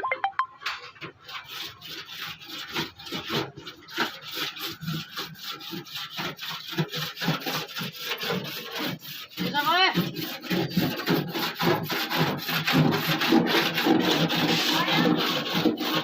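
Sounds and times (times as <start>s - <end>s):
hand sanding strokes: 0.9s - 16.0s.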